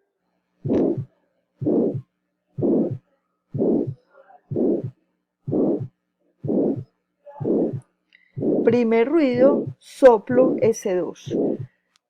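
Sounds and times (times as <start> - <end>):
heartbeat with blowing murmur: 0.6 - 11.7.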